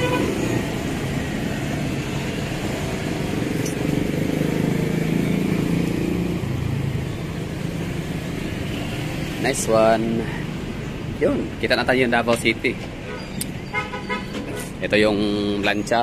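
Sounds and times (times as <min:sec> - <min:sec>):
low rumble of engines: 0:00.0 - 0:16.0.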